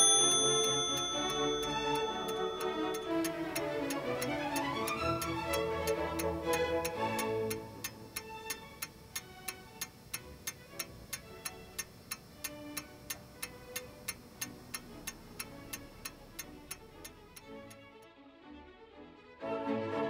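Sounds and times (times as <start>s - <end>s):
wall clock ticking: 0.0s - 17.8s
soft background music: 0.0s - 20.0s.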